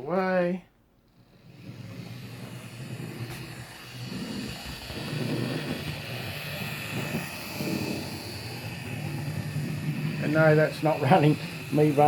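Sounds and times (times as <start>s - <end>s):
model train motor whirring: 0.0s - 12.0s
wheels rolling on rails: 1.0s - 12.0s.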